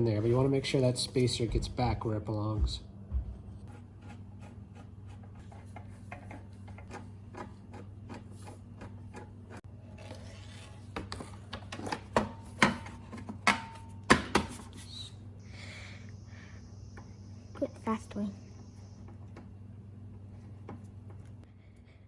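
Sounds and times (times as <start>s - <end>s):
steady low hum: 0.0s - 10.0s, 10.6s - 22.0s.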